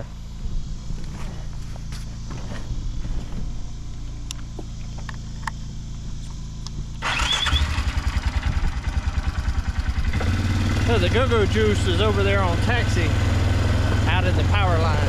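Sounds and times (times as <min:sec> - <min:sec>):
small engine idling and revving: 0:01.1 - 0:15.0.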